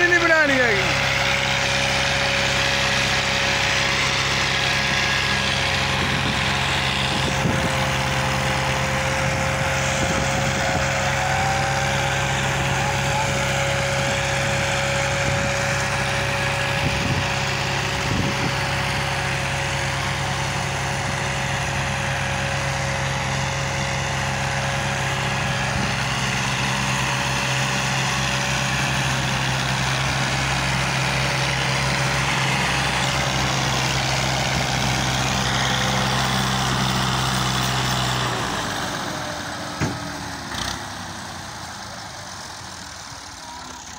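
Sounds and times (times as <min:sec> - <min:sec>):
second tractor diesel engine: 0:00.0 - 0:43.9
tractor engine labouring: 0:00.0 - 0:43.9.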